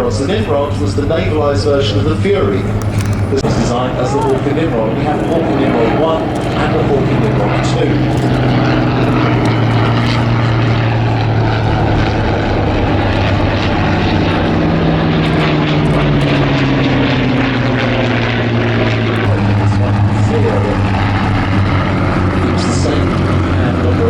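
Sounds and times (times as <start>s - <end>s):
propeller planes droning: 0.0s - 24.0s.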